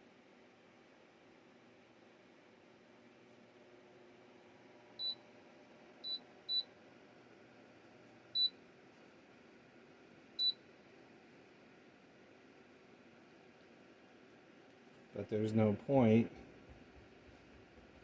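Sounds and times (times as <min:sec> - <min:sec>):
faint fan hum: 0:00.0 - 0:18.0.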